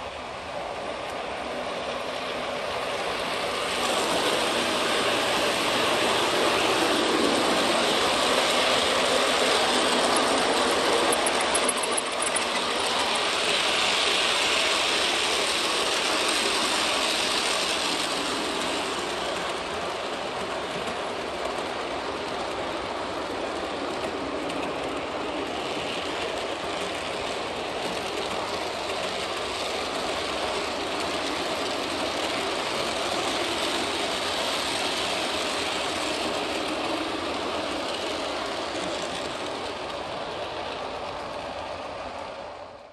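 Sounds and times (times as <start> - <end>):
model train wheels on track: 0.0 - 42.9.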